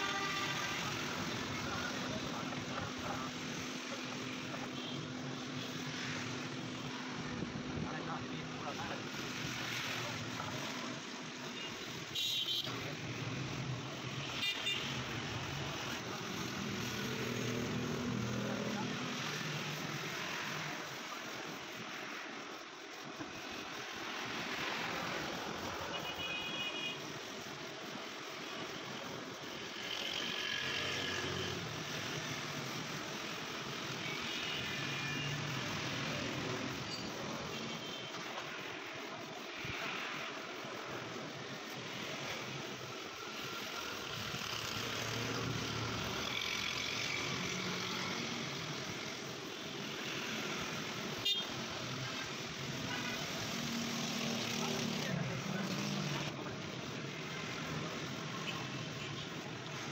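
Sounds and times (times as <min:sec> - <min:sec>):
street traffic noise: 0:00.0 - 0:59.9.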